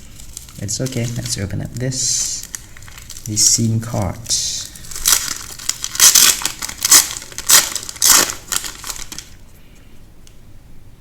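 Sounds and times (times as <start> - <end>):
plastic wrapping crinkling: 0.0 - 9.6.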